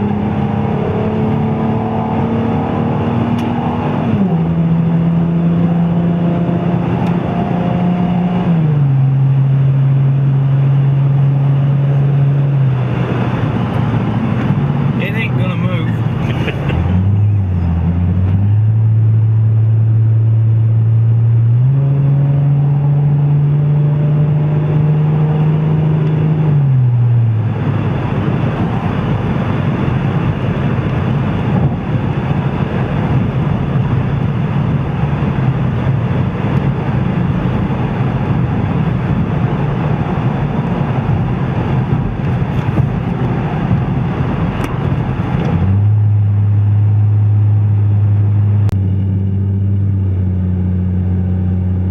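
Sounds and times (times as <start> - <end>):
rough engine rumble: 0.0 - 23.6, 26.5 - 51.9
car exhaust drone: 0.0 - 51.9
road noise: 0.0 - 51.9.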